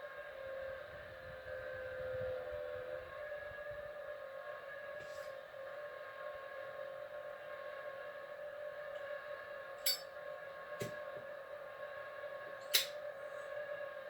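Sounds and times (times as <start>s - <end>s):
droning hum: 0.0s - 14.0s.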